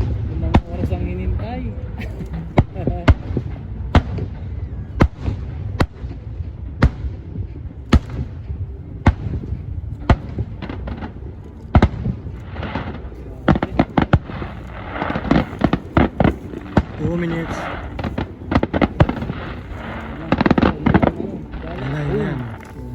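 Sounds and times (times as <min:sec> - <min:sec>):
fireworks bangs: 0:02.2 - 0:22.9.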